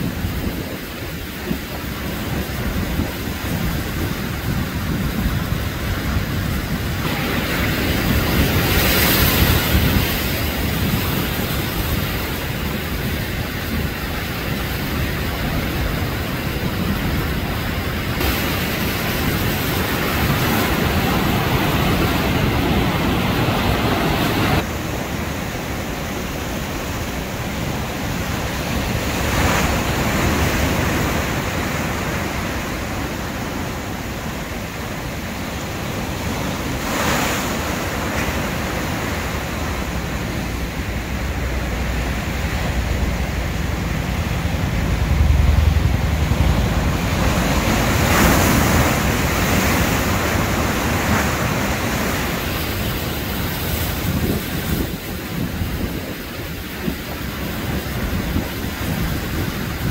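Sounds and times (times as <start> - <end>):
ocean waves crashing: 0.0 - 59.9.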